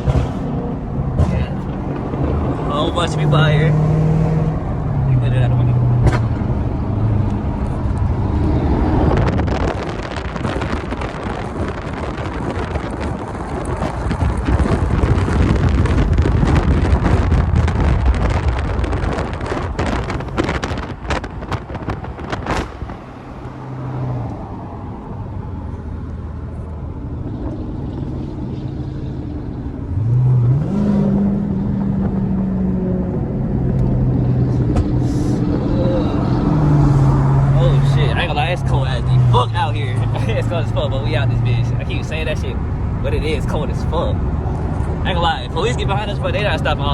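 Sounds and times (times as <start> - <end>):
engine revving: 0.0 - 24.8, 27.4 - 46.9
exhaust cracks: 0.0 - 46.9
loud rough car engines: 0.0 - 46.9.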